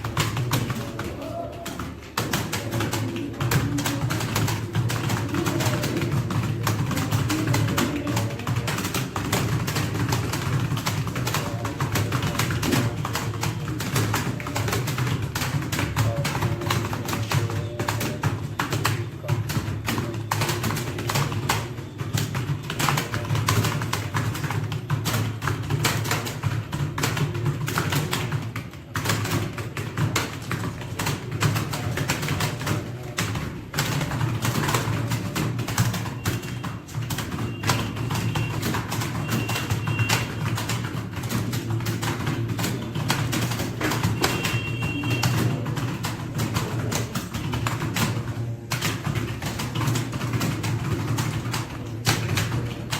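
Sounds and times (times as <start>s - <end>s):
fast keyboard typing: 0.0s - 52.9s.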